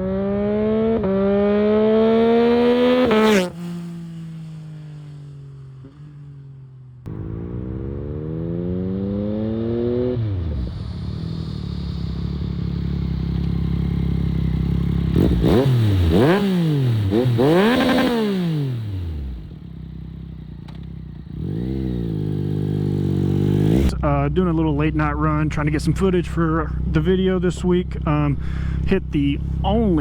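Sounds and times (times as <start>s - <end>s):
motorcycle engine revving: 0.0s - 28.3s.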